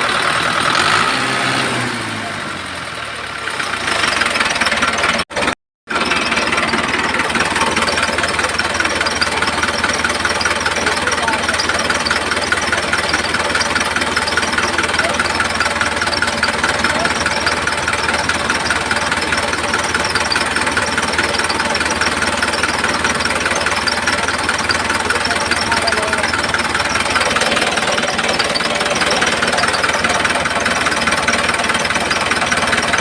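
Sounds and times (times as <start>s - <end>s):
small motor running with rattle: 3.9s - 33.0s.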